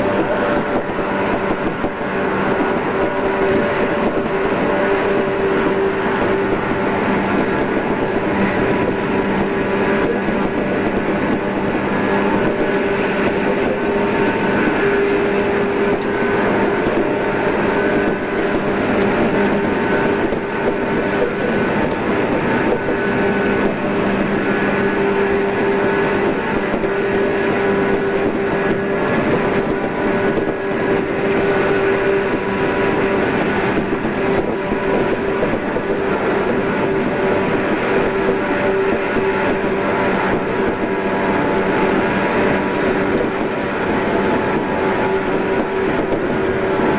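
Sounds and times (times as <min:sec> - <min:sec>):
electric train rumble and whine: 0:00.0 - 0:46.9.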